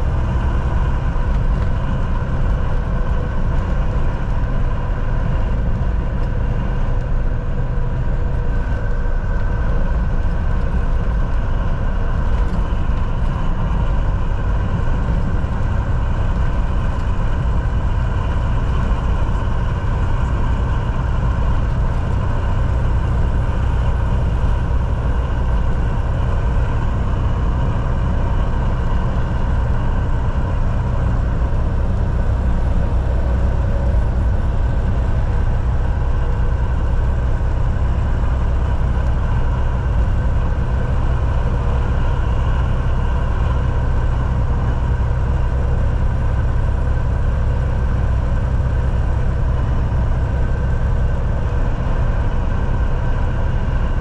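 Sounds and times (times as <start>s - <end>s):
road noise: 0.0s - 54.0s
truck engine drone: 0.0s - 54.0s.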